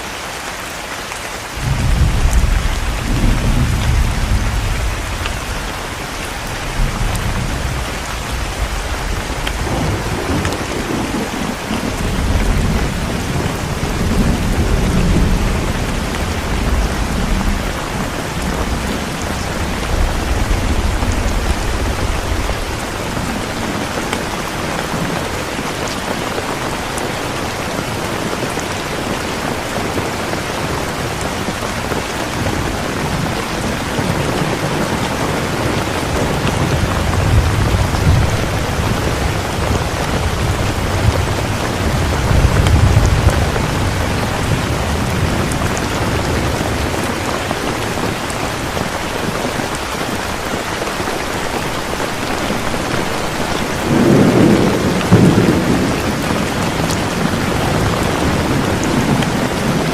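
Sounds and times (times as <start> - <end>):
heavy rain falling: 0.0 - 59.9
thunder rumbling: 1.5 - 59.9.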